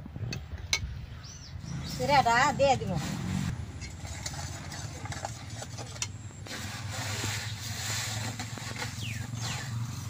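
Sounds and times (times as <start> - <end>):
low engine hum: 1.2 - 10.0.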